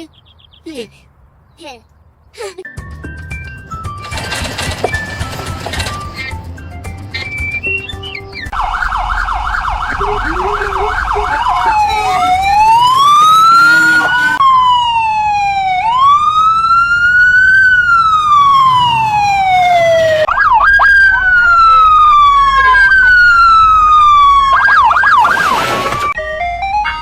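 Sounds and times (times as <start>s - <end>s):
emergency vehicle siren: 3.9s - 27.0s.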